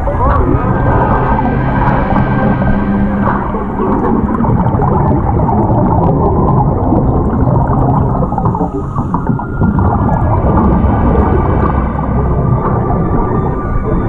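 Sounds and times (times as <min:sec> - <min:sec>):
faint bubbles crackling: 0:00.0 - 0:14.0
muffled underwater rush: 0:00.0 - 0:14.0.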